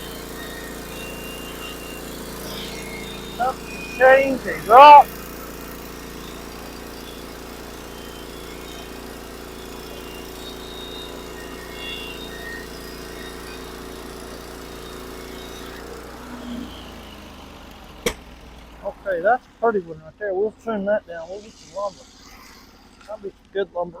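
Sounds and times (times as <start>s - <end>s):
gasoline engine running steadily: 0.0s - 24.0s.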